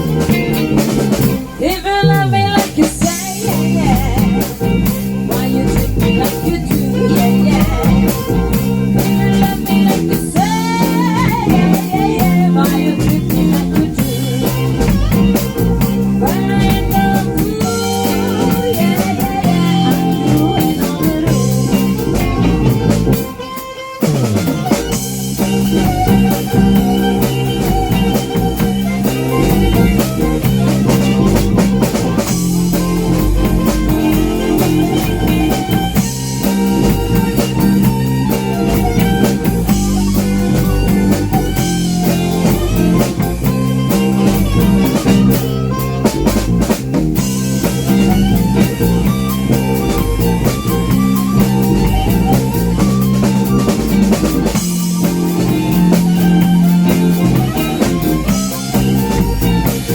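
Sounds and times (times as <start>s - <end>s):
bass line: 0.0s - 59.9s
drum kit: 0.0s - 59.9s
electric guitar lead: 0.0s - 59.9s.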